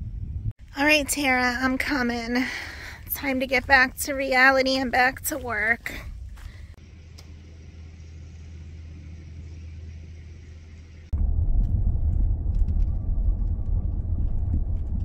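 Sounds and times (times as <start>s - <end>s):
low hum: 0.0s - 15.0s
minivan rumbling on unpaved road: 0.6s - 15.0s.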